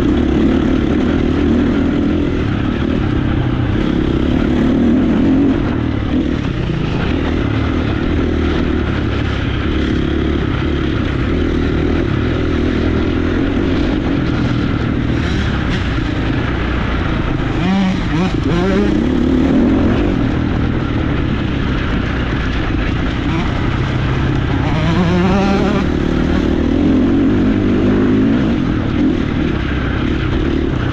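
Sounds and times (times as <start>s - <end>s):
motocross bike engine revving: 0.0s - 30.9s.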